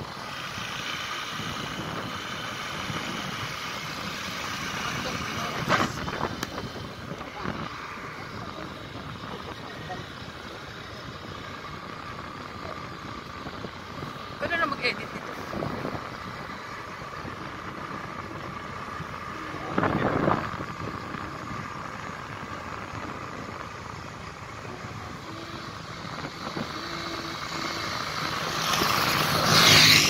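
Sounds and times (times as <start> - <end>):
motorcycle engine: 0.0 - 30.0
rush of road noise: 0.0 - 30.0.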